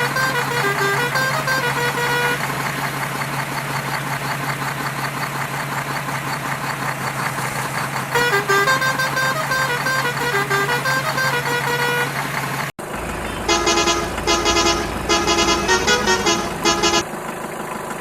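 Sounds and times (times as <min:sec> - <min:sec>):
vehicle engine rattling: 0:00.0 - 0:18.0.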